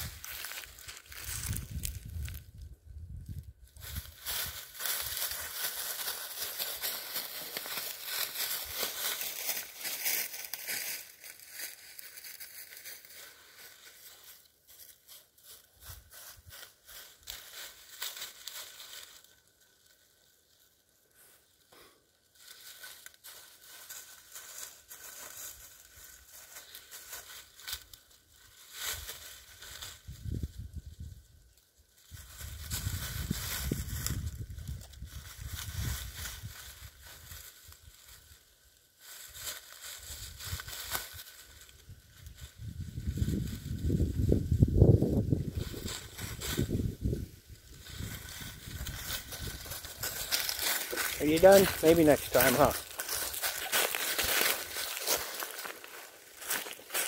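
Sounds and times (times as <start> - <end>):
dry leaves crunching and rustling: 0.0 - 2.7, 3.4 - 57.0.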